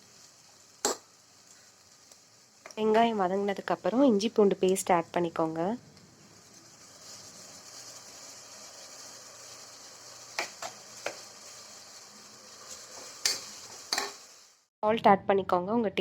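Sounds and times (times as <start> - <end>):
paste sizzling in hot oil: 0.0 - 14.7.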